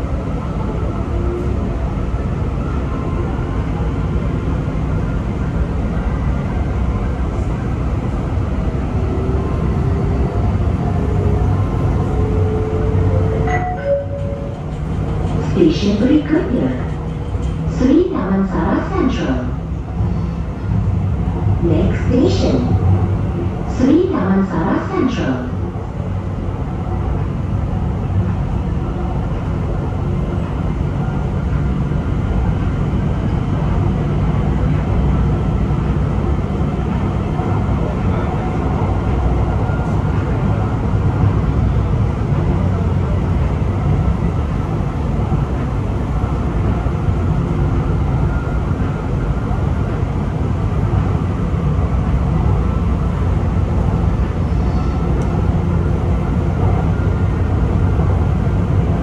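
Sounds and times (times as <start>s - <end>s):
metro train rumbling on track: 0.0s - 59.0s.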